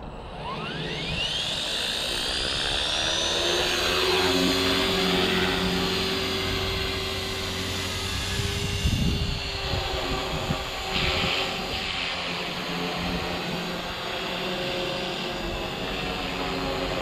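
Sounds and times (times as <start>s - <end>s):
helicopter motor whine: 0.0s - 17.0s
rotor hum: 0.0s - 17.0s.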